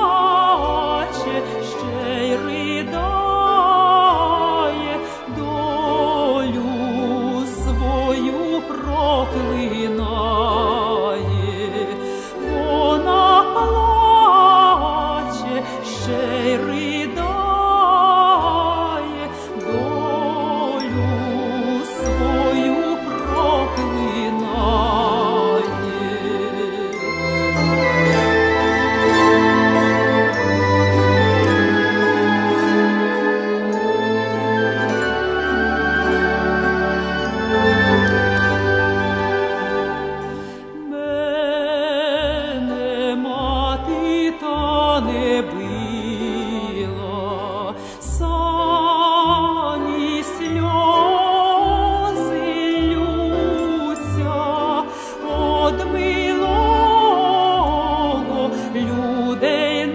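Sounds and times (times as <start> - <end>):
woman singing with vibrato: 0.0 - 34.1, 38.8 - 59.9
orchestral accompaniment: 0.0 - 59.9.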